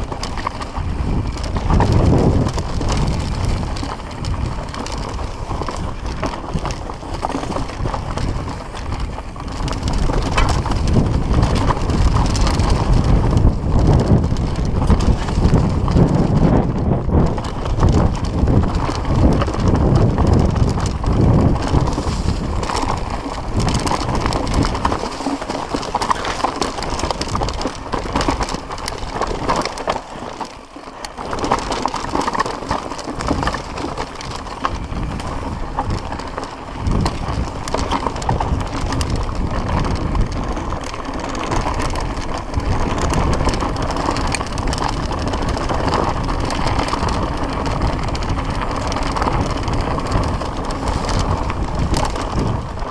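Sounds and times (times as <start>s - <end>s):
bike rattling: 0.0s - 52.9s
bike tyres rumbling over dirt: 0.0s - 52.9s.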